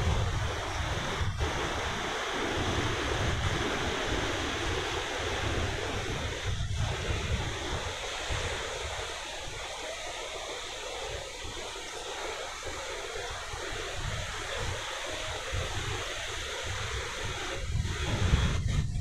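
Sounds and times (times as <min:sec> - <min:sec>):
waves breaking on beach: 0:00.0 - 0:19.0
wind buffeting microphone: 0:00.0 - 0:19.0.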